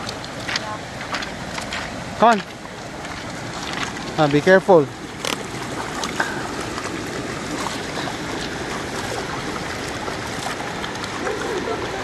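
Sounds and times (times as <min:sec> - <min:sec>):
faint splashes: 0:00.0 - 0:12.0
river water running: 0:00.0 - 0:12.0.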